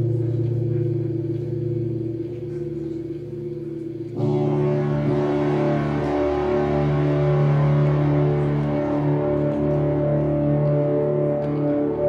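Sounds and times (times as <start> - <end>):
music of low held tones: 0.0 - 12.0.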